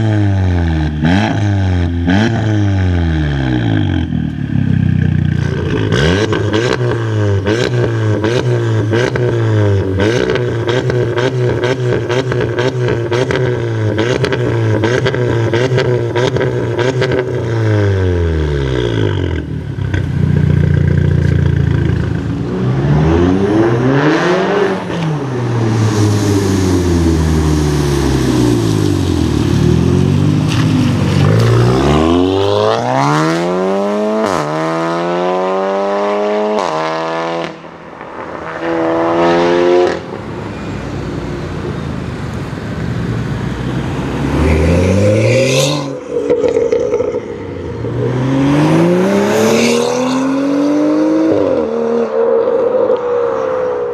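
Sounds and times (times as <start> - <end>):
car engine revving with crackles: 0.0 - 53.9.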